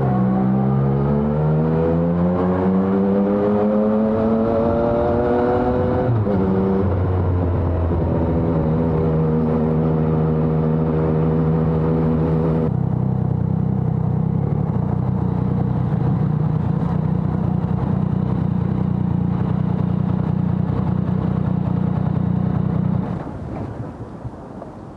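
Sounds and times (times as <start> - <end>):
motorcycle engine revving: 0.0 - 23.2.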